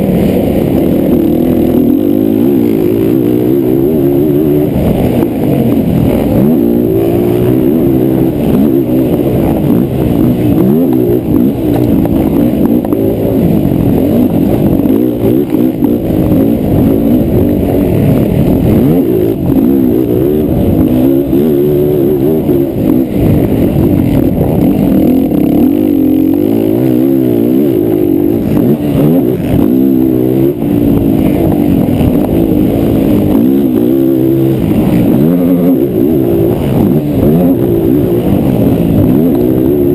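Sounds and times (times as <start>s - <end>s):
quad engines revving: 0.0s - 39.9s.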